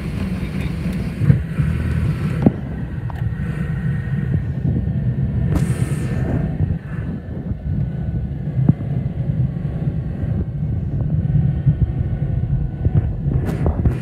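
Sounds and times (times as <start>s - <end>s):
faint steady whine: 0.0s - 14.0s
low rumble of airframe and wheels: 0.0s - 14.0s.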